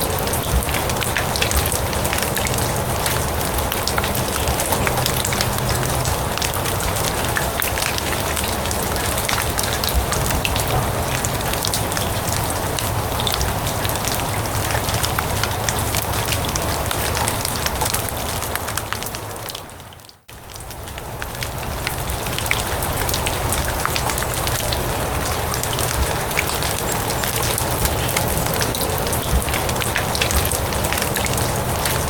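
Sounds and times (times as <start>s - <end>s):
rain pattering on grass: 0.0s - 32.0s.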